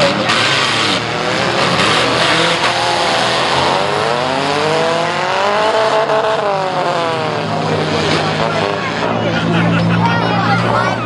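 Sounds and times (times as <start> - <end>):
car engine revving: 0.0 - 11.0
car engines running: 0.0 - 11.0.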